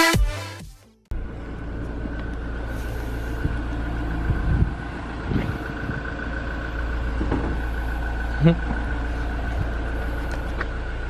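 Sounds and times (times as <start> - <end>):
car engine idling: 1.1 - 11.0.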